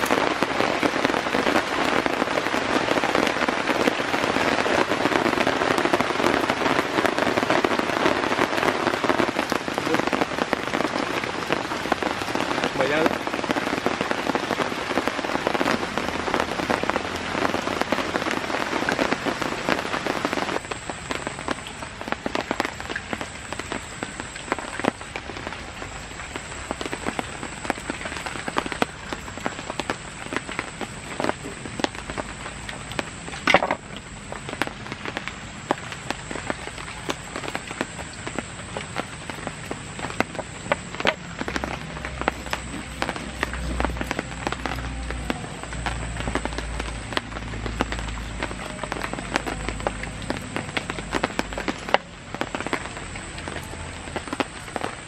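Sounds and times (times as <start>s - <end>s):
heavy rain falling: 0.0s - 55.0s
separate raindrop hits: 0.0s - 55.0s.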